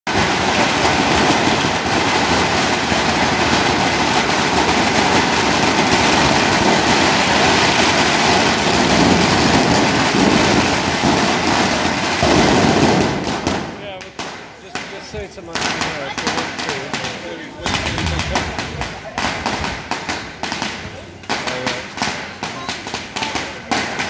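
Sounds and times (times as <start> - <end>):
crowd and street hubbub: 0.1 - 24.0.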